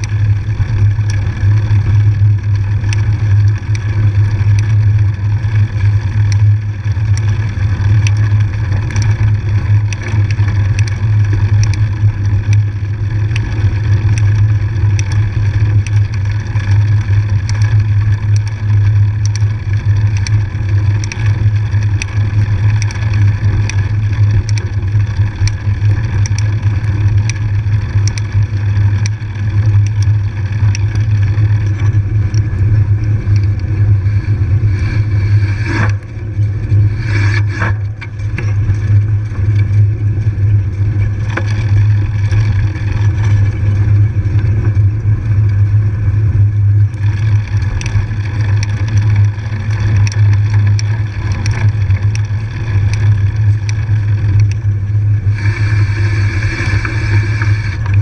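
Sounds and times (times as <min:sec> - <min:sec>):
small clicks and rattles: 0:00.0 - 0:58.0
steady low drone of riding: 0:00.0 - 0:58.0.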